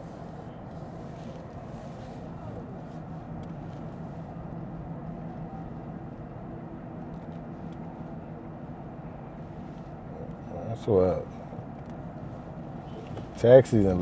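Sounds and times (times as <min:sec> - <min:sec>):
car engine humming: 0:00.0 - 0:14.0
road and tyre rumble: 0:00.0 - 0:14.0.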